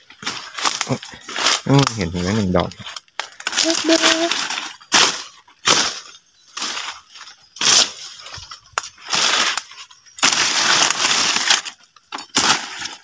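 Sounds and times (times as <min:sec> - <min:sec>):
footsteps crunching on dry leaves: 0:00.0 - 0:13.0
leafy branches rustling: 0:00.0 - 0:13.0.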